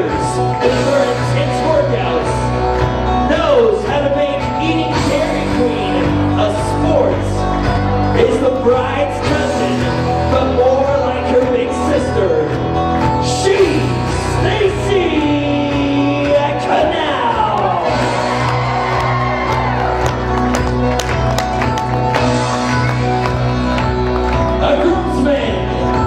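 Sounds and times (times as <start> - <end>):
song with vocals over loud sound system: 0.0 - 26.0.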